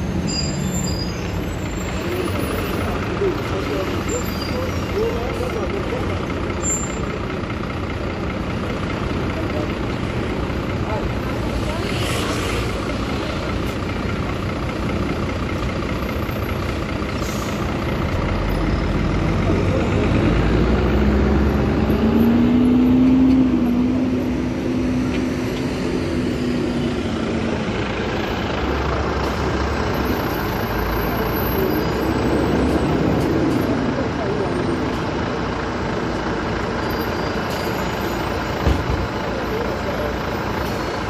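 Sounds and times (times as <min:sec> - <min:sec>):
bus diesel engine rumble: 0:00.0 - 0:41.0
bus pulling past with whine: 0:00.0 - 0:41.0
street traffic: 0:00.0 - 0:41.0.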